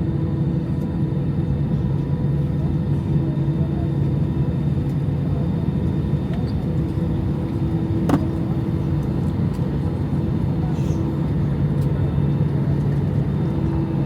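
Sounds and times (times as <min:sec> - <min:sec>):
airplane cabin rumble while taxiing: 0:00.0 - 0:14.0
jet engine hum: 0:00.0 - 0:14.0.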